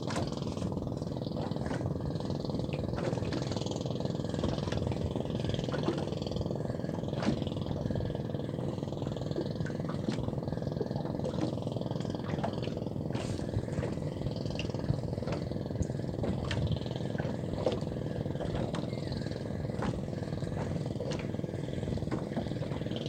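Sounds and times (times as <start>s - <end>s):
motor droning: 0.0s - 23.0s.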